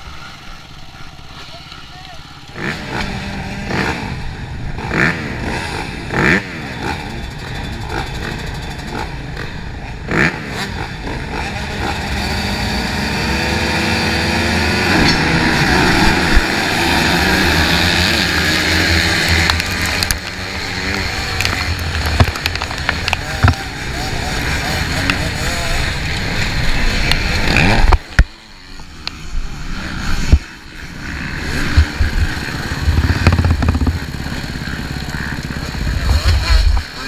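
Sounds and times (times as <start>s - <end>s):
motorcycle engine revving: 2.3s - 37.0s.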